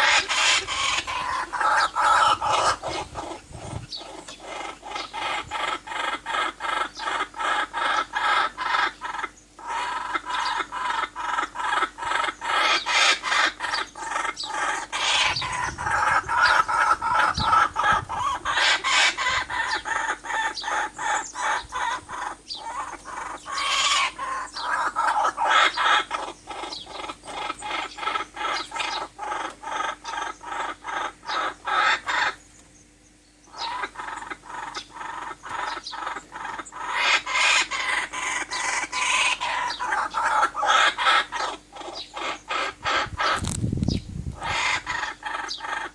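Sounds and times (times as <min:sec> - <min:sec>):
birds clucking chatter: 0:00.0 - 0:45.9.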